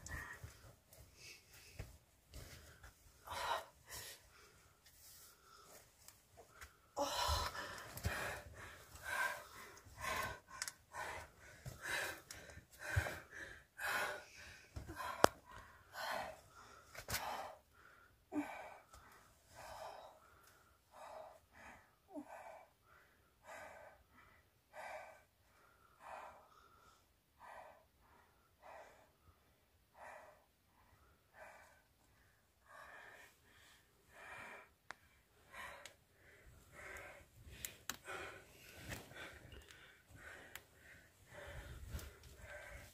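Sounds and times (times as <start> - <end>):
woman breathing heavily: 0.0 - 42.9.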